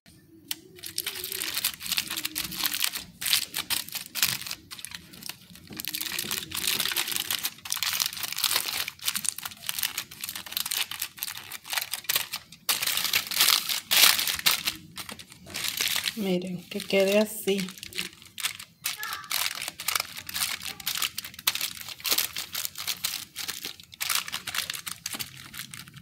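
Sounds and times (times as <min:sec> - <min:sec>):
aluminium foil crinkling: 0:00.4 - 0:26.0.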